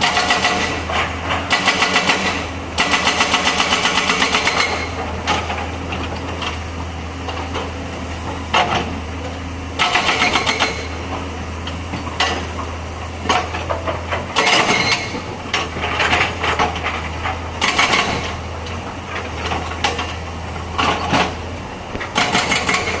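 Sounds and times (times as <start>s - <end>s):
excavator diesel engine humming: 0.0s - 23.0s.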